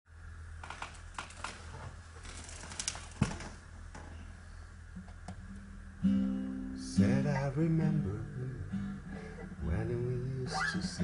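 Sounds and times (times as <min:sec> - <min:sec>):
low steady hum: 0:00.1 - 0:11.0.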